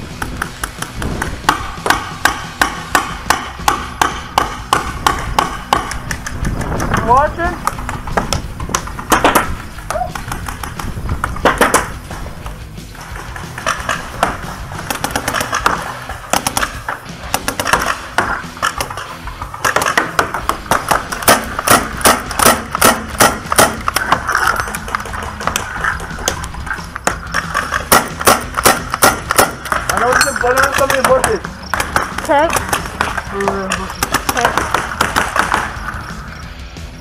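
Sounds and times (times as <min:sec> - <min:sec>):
paintball markers firing: 0:00.0 - 0:36.2.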